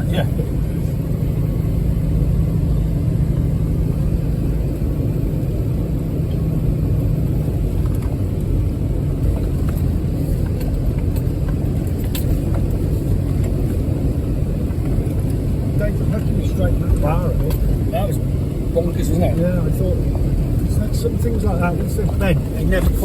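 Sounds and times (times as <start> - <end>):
off-road vehicle engine rumble: 0.0 - 23.0.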